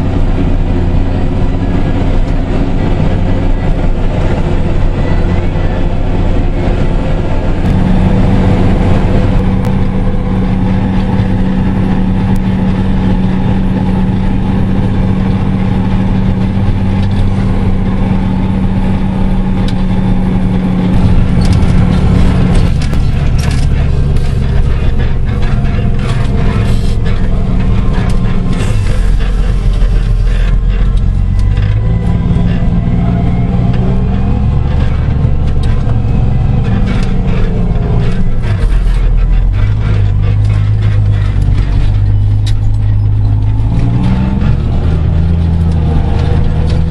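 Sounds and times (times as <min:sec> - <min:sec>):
tractor diesel engine droning: 0:00.0 - 0:46.9.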